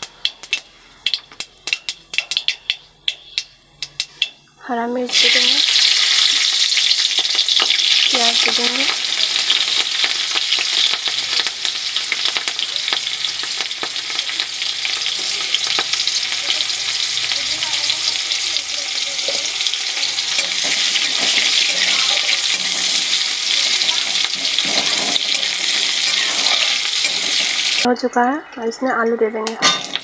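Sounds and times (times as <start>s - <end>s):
onion frying in hot oil: 0.0s - 4.3s, 5.0s - 28.1s, 29.6s - 30.0s.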